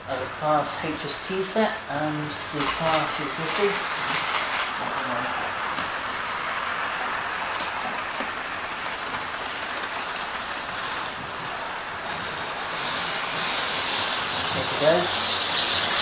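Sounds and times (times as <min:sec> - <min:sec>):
model train motors whirring: 0:00.2 - 0:16.0.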